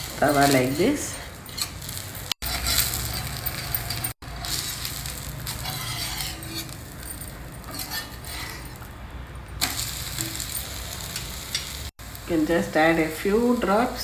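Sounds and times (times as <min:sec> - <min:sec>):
batter sizzling on a pan: 0:00.0 - 0:09.0, 0:09.6 - 0:14.0
metal spatula scraping a pan: 0:00.0 - 0:11.8.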